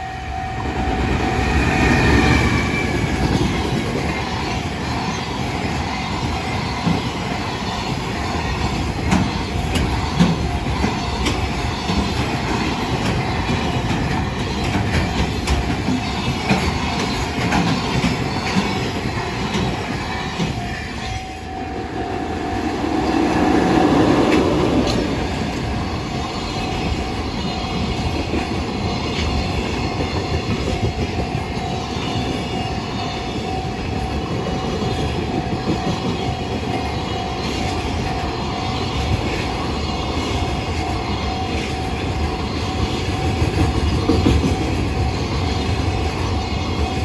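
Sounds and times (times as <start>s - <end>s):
freight wagons rumbling on rails: 0.0s - 47.0s
level crossing warning bell: 0.0s - 47.0s.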